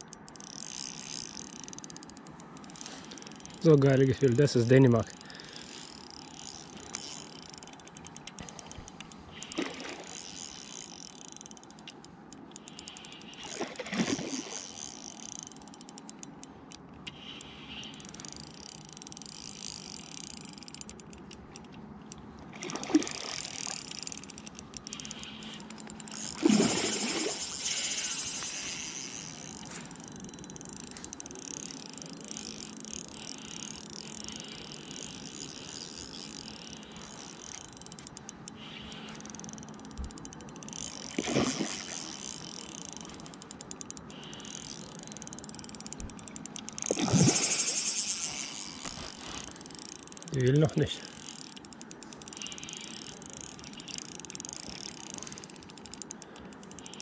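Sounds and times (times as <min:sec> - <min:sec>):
fishing reel whirring and clicking: 0:00.0 - 0:57.0.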